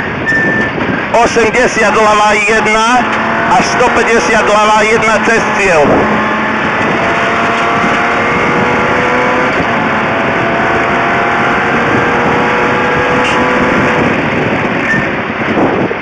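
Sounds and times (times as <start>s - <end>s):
car engine at high revs: 0.0s - 16.0s
gear upshift: 0.1s - 15.6s.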